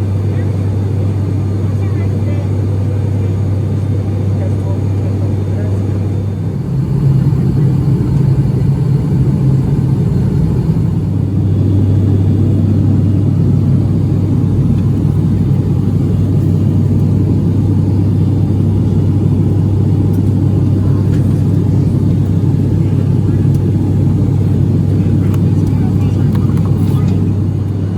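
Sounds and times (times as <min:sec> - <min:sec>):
airliner engine drone in cabin: 0:00.0 - 0:27.9.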